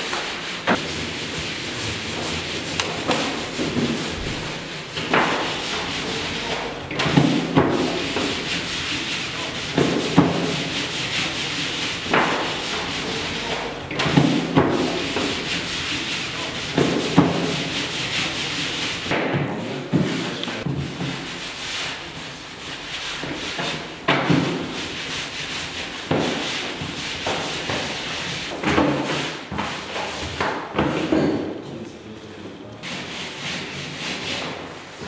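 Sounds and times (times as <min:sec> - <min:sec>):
dough scraping on table: 0:00.0 - 0:31.4, 0:32.8 - 0:35.0.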